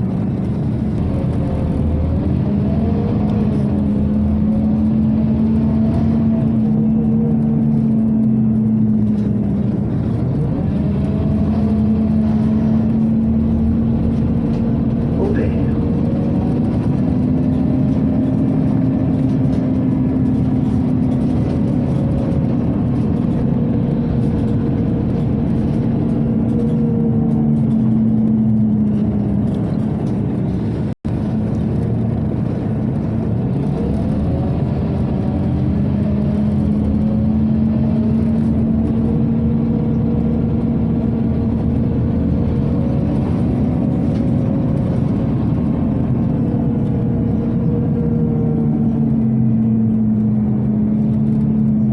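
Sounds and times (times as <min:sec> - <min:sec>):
bus engine and road noise: 0:00.0 - 0:51.9.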